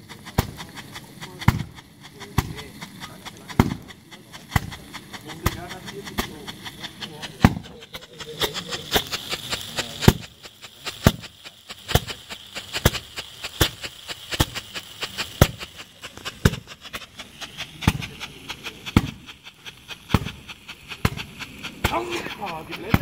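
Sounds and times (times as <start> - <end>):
burning composition hiss: 0.0 - 23.0
pyrotechnic charges popping: 0.0 - 23.0
small crackles: 0.0 - 23.0.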